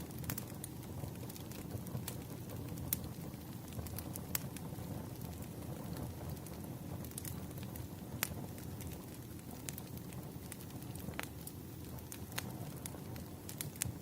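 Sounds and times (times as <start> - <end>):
low steady fire rumble: 0.0 - 14.0
wood fire popping and snapping: 0.0 - 14.0.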